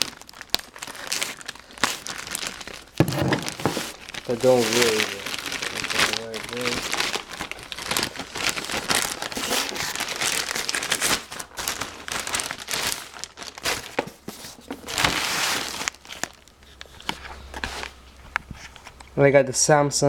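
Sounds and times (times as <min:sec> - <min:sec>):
packaging crinkling: 0:00.0 - 0:19.2.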